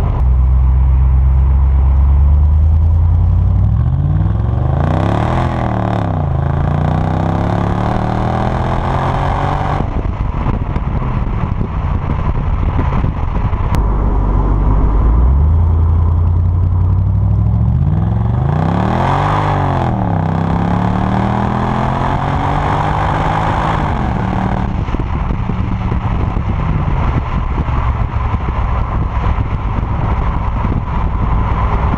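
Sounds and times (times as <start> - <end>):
car exhaust revving: 0.0 - 31.9.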